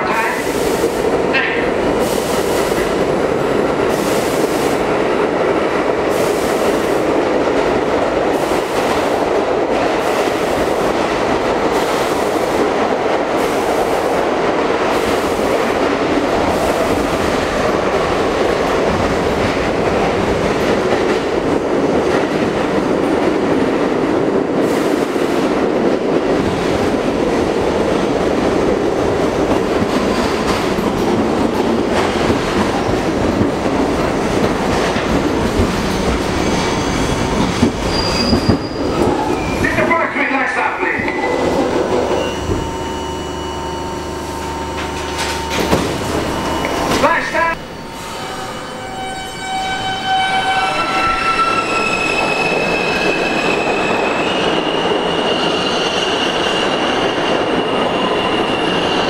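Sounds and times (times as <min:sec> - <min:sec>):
subway car wheels rumbling: 0:00.0 - 0:59.0.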